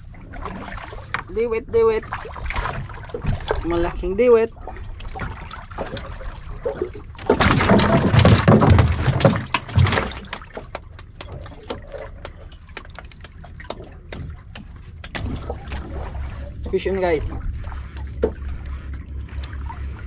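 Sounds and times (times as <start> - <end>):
water splashing around boat: 0.0 - 20.0
wind: 0.0 - 20.0.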